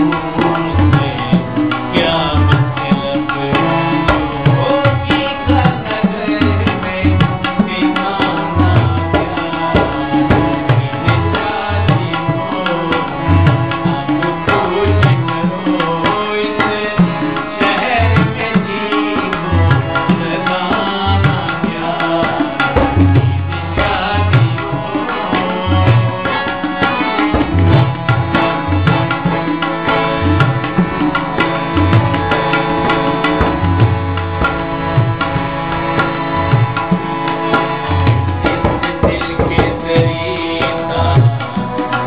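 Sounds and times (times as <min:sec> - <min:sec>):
sustained melodic accompaniment: 0:00.0 - 0:42.0
tabla rhythm: 0:00.0 - 0:42.0.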